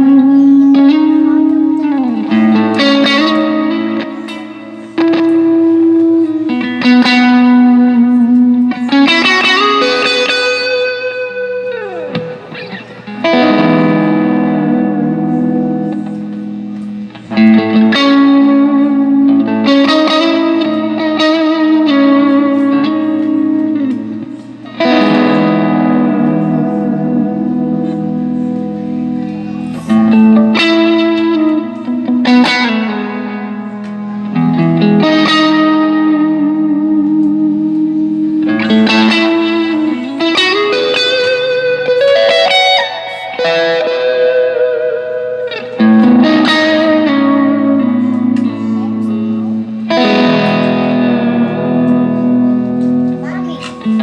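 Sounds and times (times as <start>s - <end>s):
electric guitar with reverb: 0.0s - 54.0s.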